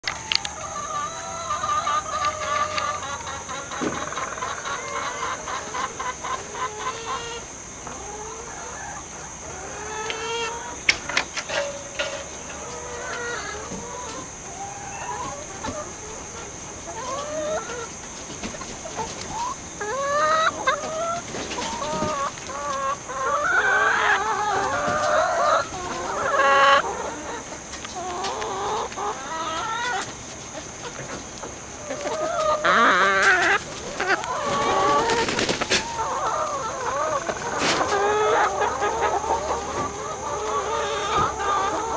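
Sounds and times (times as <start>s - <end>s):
hens clucking and squawking: 0.0s - 41.9s.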